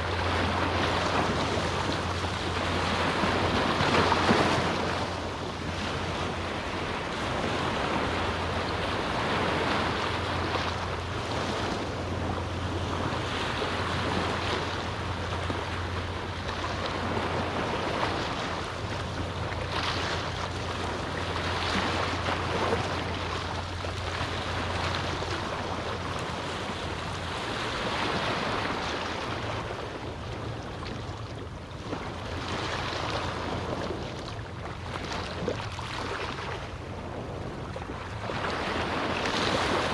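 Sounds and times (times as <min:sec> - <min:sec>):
small waves washing onto beach: 0:00.0 - 0:39.9
steady low hum: 0:00.0 - 0:39.9.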